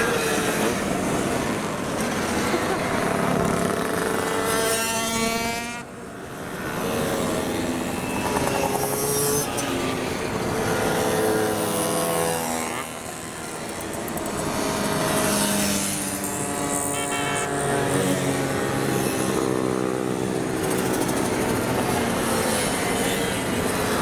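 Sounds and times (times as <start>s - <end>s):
two-stroke mopeds passing by: 0.0s - 24.0s.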